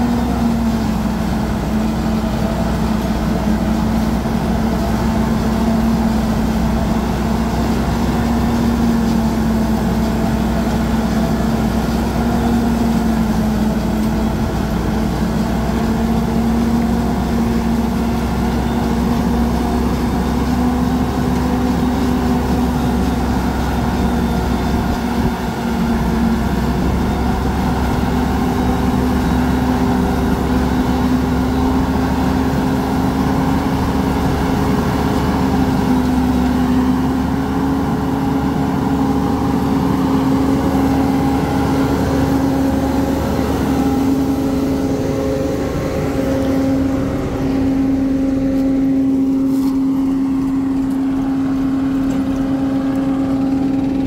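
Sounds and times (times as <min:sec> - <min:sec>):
tractor and forage harvester droning: 0:00.0 - 0:54.0.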